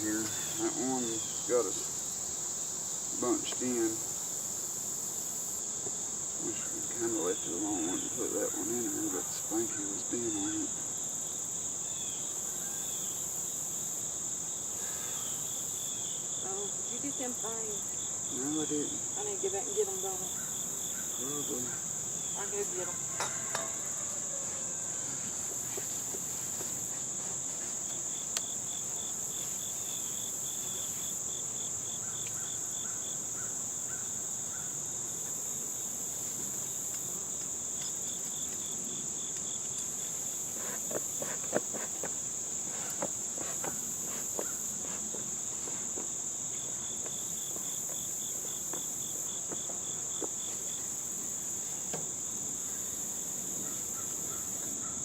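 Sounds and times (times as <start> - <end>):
high-pitched insect chorus: 0.0 - 55.0
low pulsing insect trill: 0.0 - 55.0.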